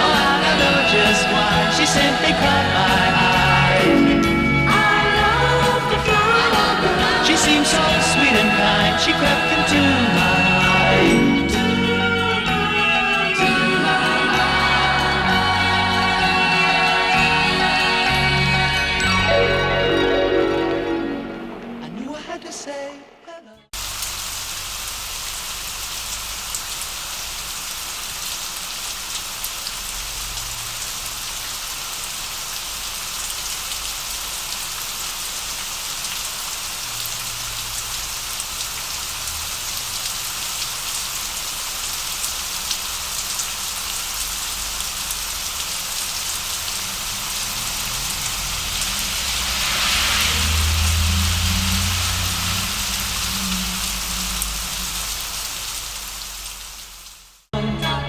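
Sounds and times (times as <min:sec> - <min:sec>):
rain on a hard surface: 0:00.0 - 0:18.4, 0:23.8 - 0:57.5.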